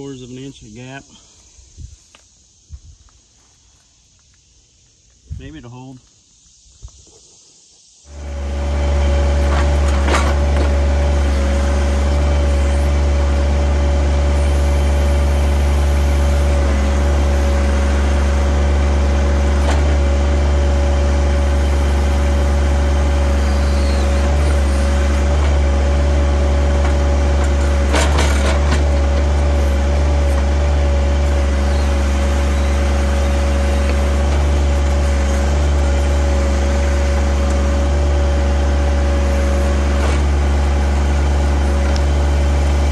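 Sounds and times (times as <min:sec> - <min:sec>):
hydraulic whine: 0:08.0 - 0:42.9
tractor engine running: 0:08.1 - 0:42.9.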